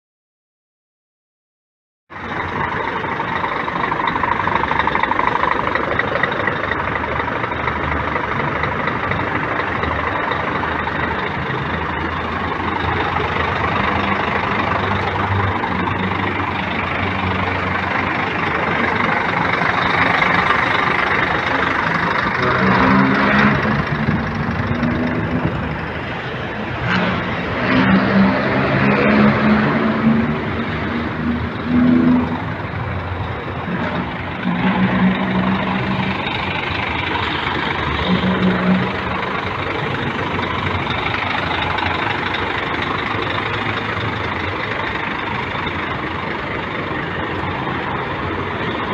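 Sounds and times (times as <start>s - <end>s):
diesel truck engine revving: 2.1s - 48.9s.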